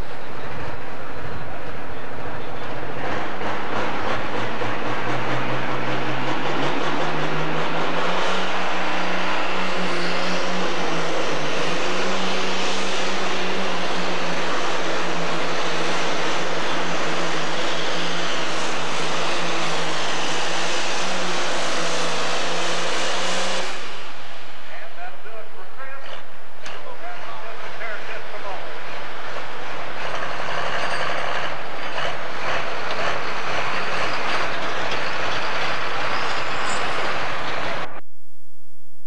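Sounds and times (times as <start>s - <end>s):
diesel engine running flat out: 0.0s - 37.9s.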